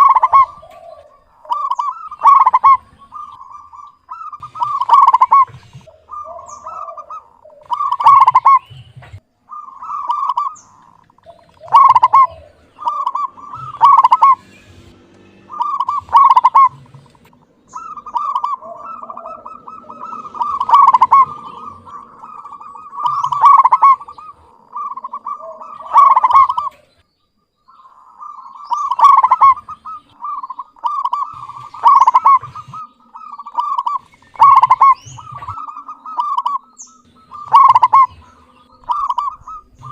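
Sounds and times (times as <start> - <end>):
dove cooing: 0.0 - 14.4, 15.5 - 27.0, 27.7 - 39.9.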